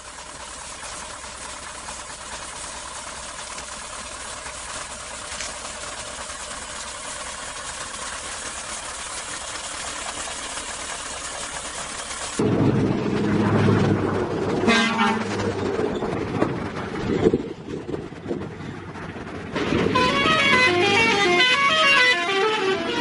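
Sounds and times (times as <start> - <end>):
heavy truck engines running: 0.0 - 23.0.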